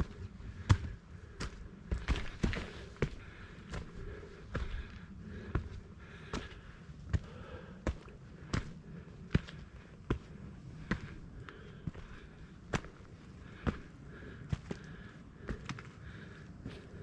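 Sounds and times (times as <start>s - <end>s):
faint steady background: 0.0s - 17.0s
footsteps on trail: 0.0s - 17.0s.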